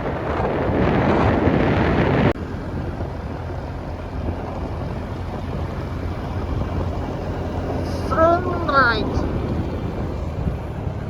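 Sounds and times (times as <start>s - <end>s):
motorbike engine hum: 0.0s - 11.0s
road and wind noise: 0.0s - 11.0s
wind buffeting microphone: 0.0s - 11.0s.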